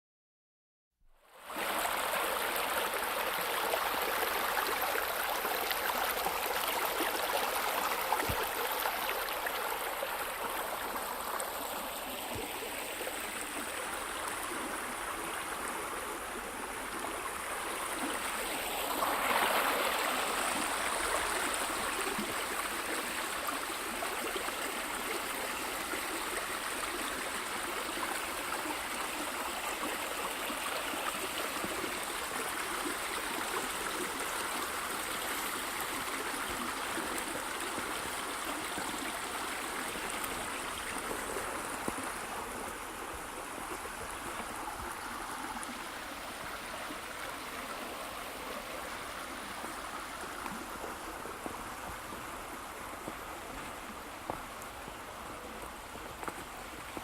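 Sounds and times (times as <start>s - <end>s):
babbling stream: 1.2s - 57.0s.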